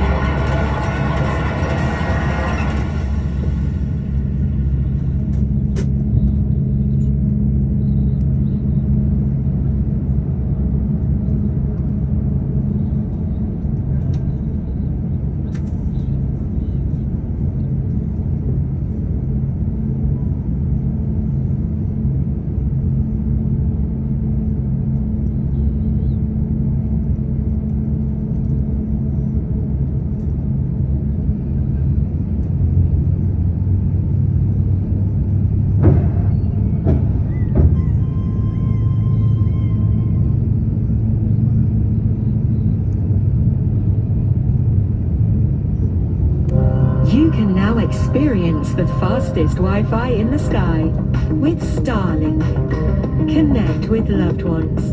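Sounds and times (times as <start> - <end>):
aircraft cabin rumble and hum: 0.0 - 54.9.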